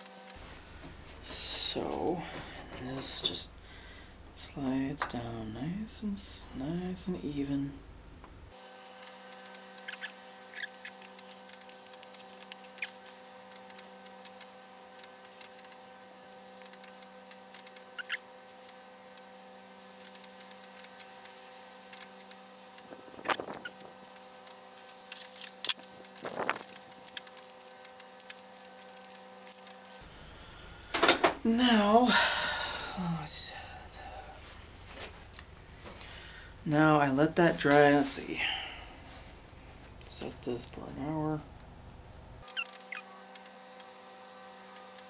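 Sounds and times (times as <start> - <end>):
electrical hum: 0.0 - 45.0.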